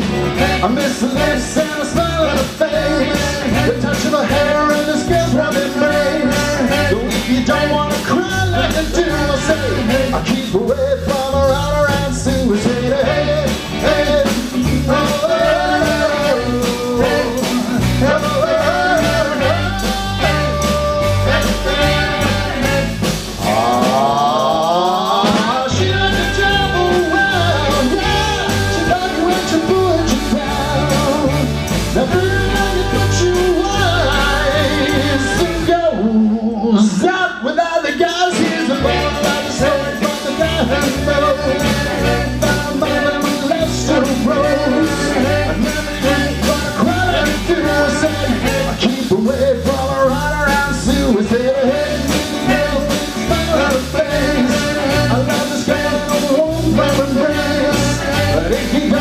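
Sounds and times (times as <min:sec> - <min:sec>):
person singing: 0:00.0 - 0:59.0
rock and roll band playing: 0:00.0 - 0:59.0.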